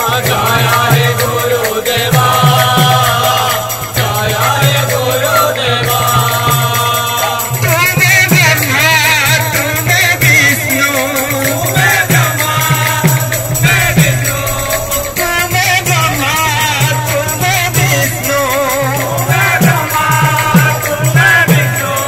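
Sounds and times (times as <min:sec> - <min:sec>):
barrel drums beating: 0:00.0 - 0:22.0
group singing devotional chant: 0:00.0 - 0:22.0
metal cymbals ringing: 0:00.0 - 0:22.0.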